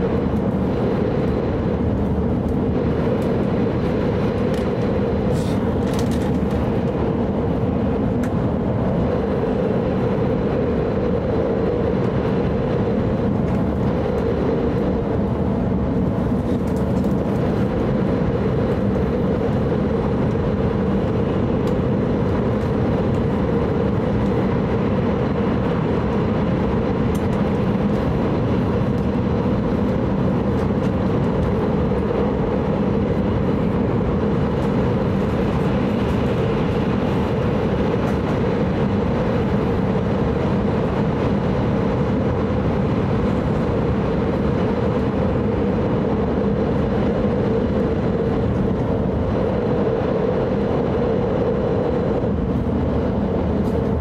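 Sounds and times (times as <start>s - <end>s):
train cabin low rumble: 0.0s - 54.0s.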